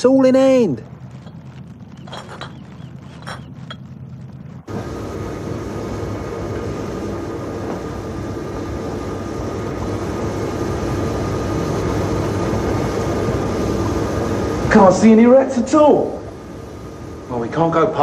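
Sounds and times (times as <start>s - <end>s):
engine room machinery drone: 0.0s - 18.0s.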